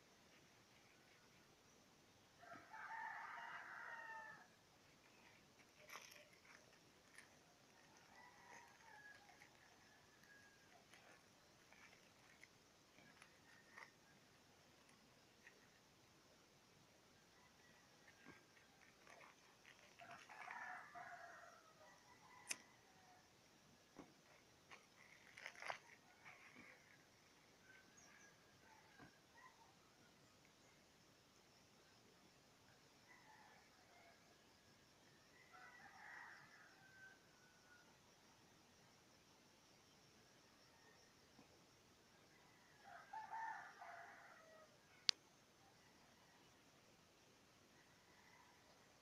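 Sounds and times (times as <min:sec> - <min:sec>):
faint rooster crowing: 0:02.3 - 0:16.3, 0:17.1 - 0:30.7, 0:32.7 - 0:38.4, 0:40.4 - 0:49.0.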